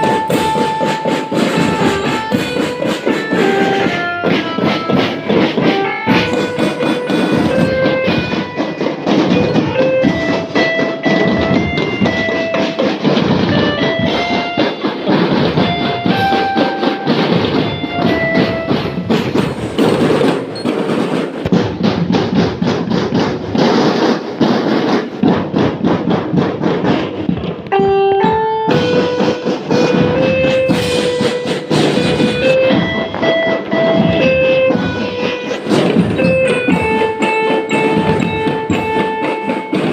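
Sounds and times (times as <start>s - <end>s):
held melody notes: 0.0s - 20.7s, 27.6s - 39.9s
snare and bass drums beating: 0.0s - 39.9s.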